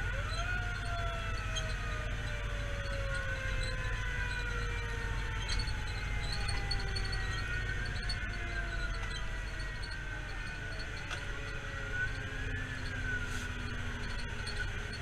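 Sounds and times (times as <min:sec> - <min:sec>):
fire engine siren wailing: 0:00.0 - 0:15.0
road noise: 0:00.0 - 0:15.0
truck engine rumble: 0:00.0 - 0:15.0.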